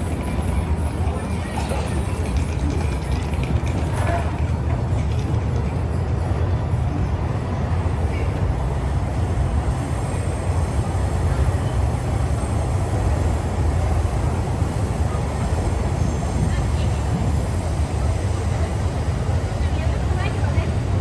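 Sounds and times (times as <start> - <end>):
city street vehicle noise: 0.0 - 21.0.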